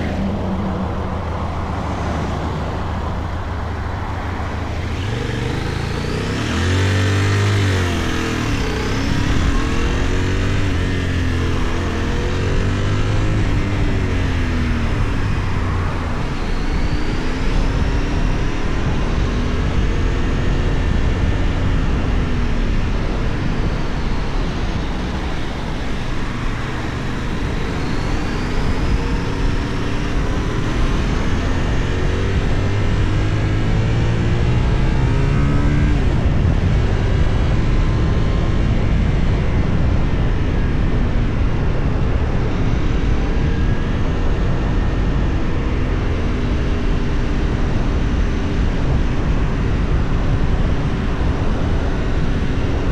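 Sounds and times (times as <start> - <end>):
motorcycle engine revving: 0.0 - 52.9
wind and road noise: 0.0 - 52.9.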